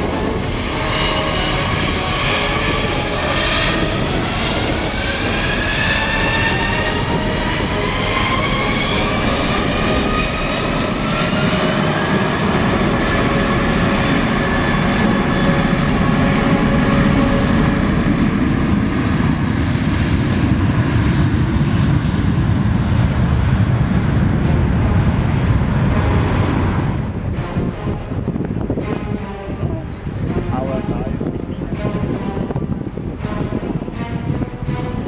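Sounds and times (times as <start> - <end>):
jet engines spooling up: 0.0 - 35.0
loud steady jet roar: 0.0 - 35.0.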